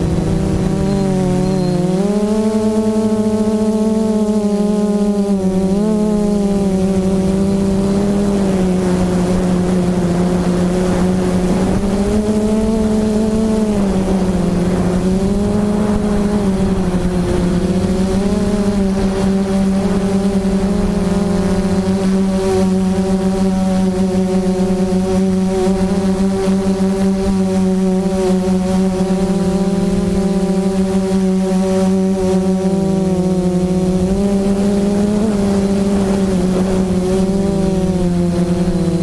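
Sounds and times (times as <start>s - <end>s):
quadcopter motors buzzing: 0.0s - 39.0s.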